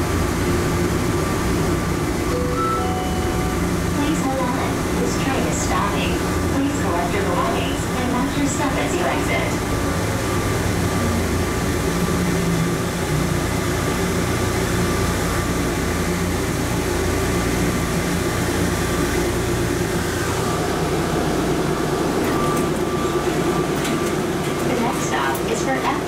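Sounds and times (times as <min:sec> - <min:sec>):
train rumbling in tunnel: 0:00.0 - 0:26.0.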